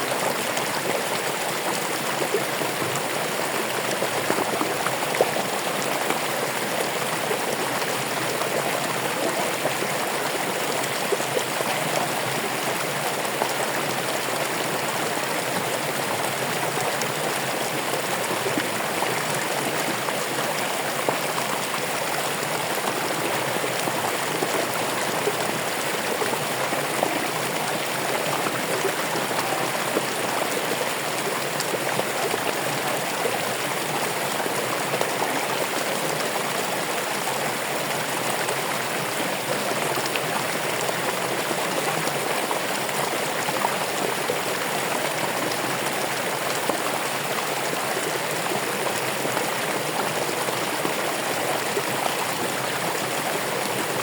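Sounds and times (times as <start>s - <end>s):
running water flowing: 0.0s - 54.0s.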